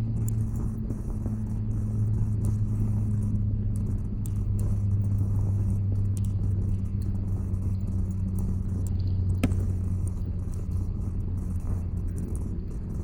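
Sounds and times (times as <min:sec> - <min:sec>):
campfire crackling and popping: 0:00.0 - 0:13.0
fire low rumble: 0:00.0 - 0:13.0.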